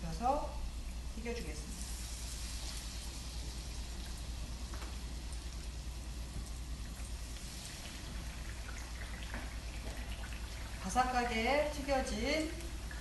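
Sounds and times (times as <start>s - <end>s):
vegetables deep-frying in oil: 0.1s - 13.0s.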